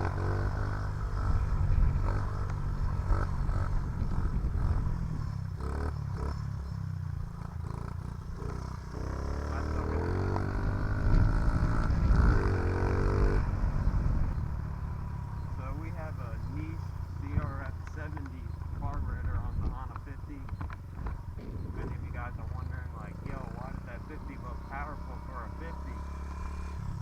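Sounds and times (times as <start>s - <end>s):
small motorcycle engine revving: 0.0s - 27.0s.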